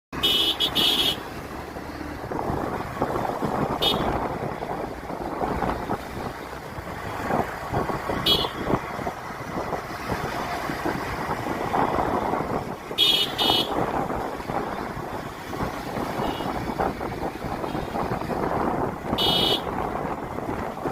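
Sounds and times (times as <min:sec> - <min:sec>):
highway traffic rumble: 0:00.1 - 0:20.9.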